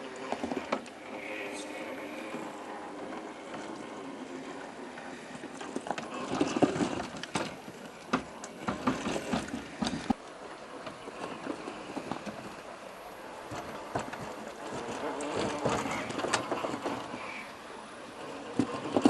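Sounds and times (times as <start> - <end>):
toy car clattering over rocks: 0.0 - 19.0.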